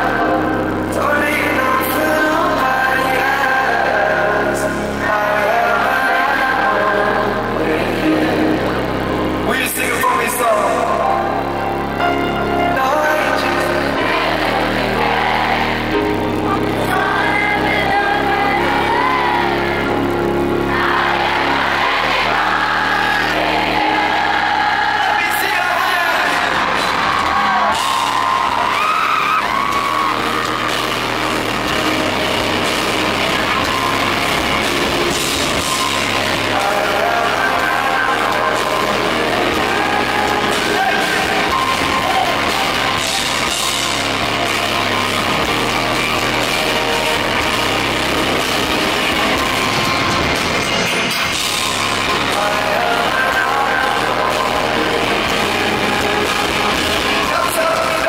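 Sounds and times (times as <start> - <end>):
fans yelling and whooping: 0.0 - 58.0
live pop music: 0.0 - 58.0.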